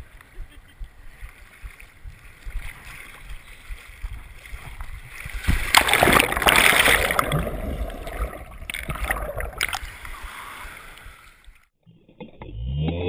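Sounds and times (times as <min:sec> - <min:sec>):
underwater rushing and bubbling: 0:00.1 - 0:11.7.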